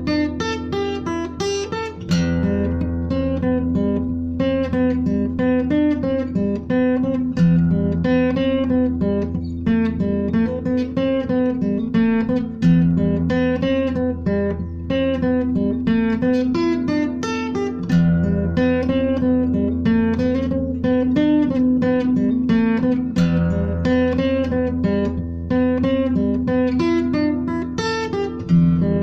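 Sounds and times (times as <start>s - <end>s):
acoustic guitar instrumental: 0.0s - 29.0s.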